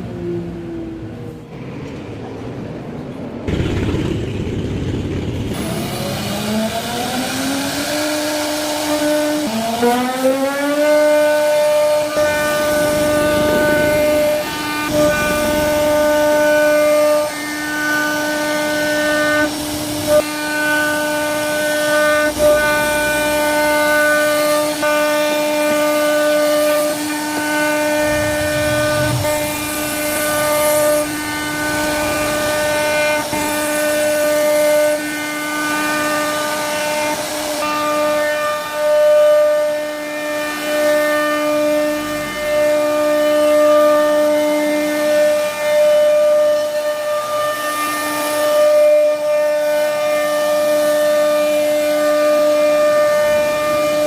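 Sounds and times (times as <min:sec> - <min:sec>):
bit cutting wood: 0:03.5 - 0:54.0
router spindle whine: 0:03.5 - 0:54.0.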